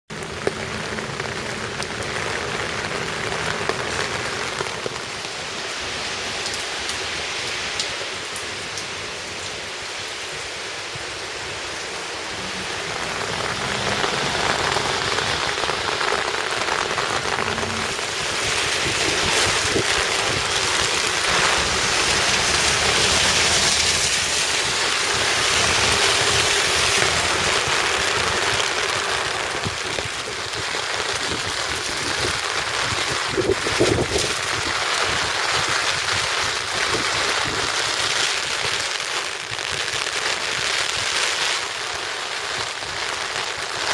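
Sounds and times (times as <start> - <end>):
heavy wind-driven rain: 0.1 - 43.9.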